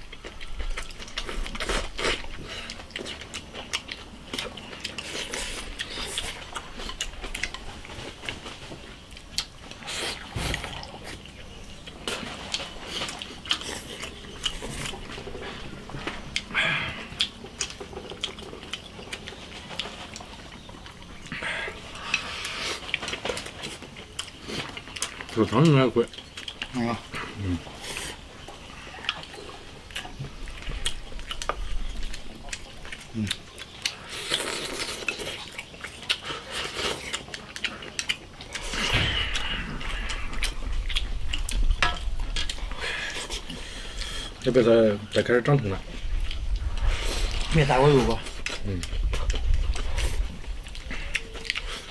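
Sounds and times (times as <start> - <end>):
people chewing and slurping: 0.0 - 51.9.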